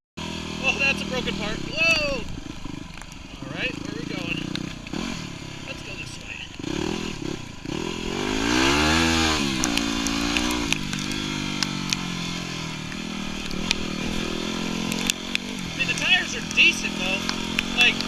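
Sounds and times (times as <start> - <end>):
motorbike engine revving: 0.2 - 18.0
sharp ticks: 2.3 - 5.6, 6.5 - 18.0.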